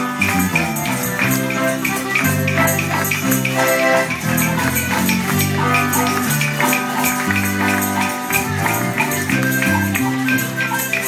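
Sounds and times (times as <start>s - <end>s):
accordion and guitars music: 0.0s - 11.0s
tambourine jingling: 0.0s - 11.0s.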